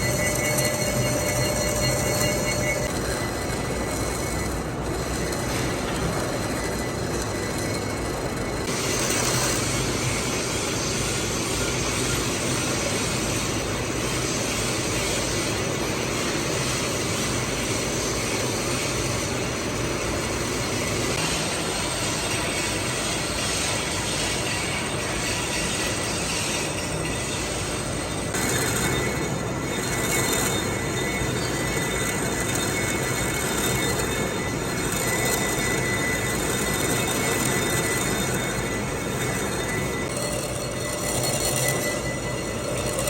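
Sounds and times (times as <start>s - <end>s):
faint steady whine: 0.0s - 43.0s
metal lathe machining: 0.0s - 43.0s.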